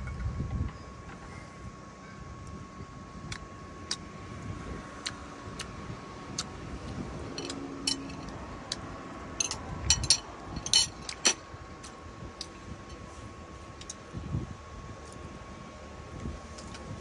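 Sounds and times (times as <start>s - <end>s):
faint high-pitched hum: 0.0s - 17.0s.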